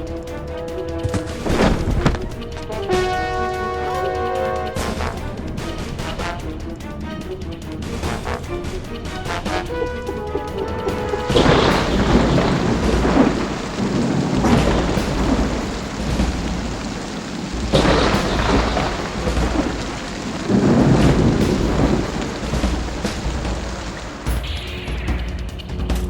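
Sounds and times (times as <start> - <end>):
thunder rumbling: 0.0 - 6.9, 7.8 - 26.0
steady rain: 0.0 - 26.0.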